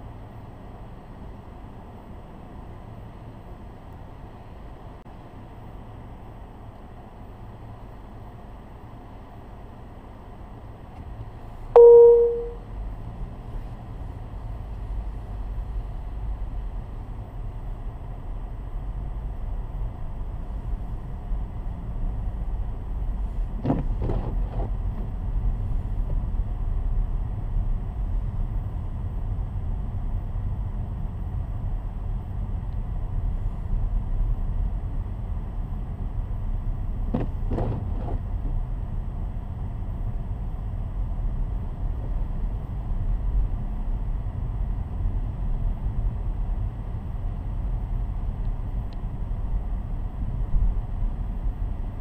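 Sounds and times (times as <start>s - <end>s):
road and tyre rumble: 0.0s - 52.0s.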